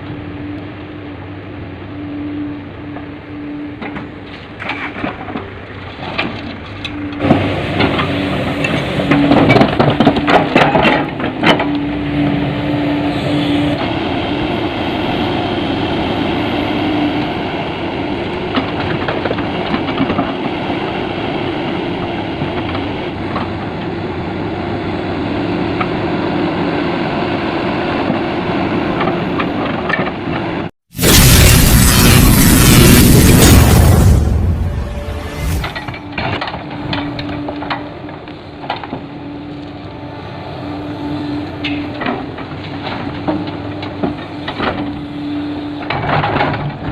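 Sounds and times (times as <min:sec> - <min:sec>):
heavy diesel excavator running: 0:00.0 - 0:46.9.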